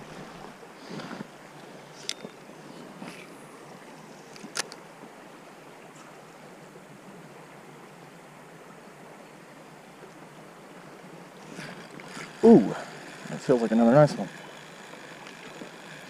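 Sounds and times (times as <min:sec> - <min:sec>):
creek water running: 0:00.0 - 0:16.0.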